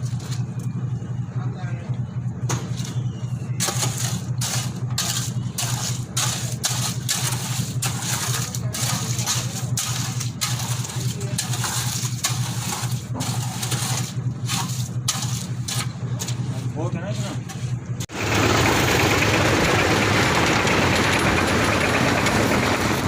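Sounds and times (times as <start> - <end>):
engine humming: 0.0 - 23.0
gritty scraping rattling: 2.6 - 23.0.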